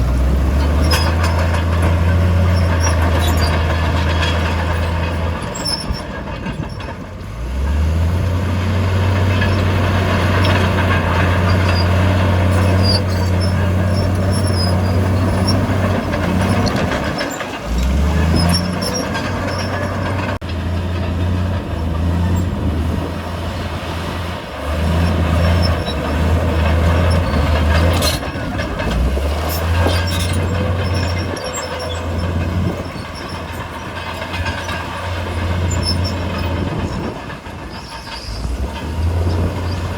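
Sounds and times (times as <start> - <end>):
metal clanking: 0.0 - 7.8, 8.4 - 39.9
bulldozer diesel engine under load: 0.0 - 39.9.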